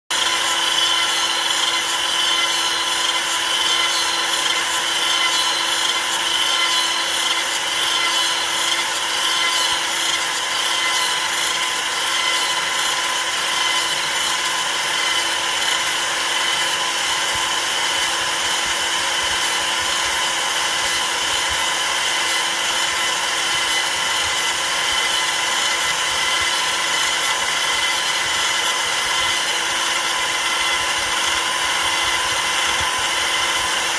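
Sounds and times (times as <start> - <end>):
bit cutting into wood: 0.1 - 33.9
router spindle whine: 0.1 - 33.9.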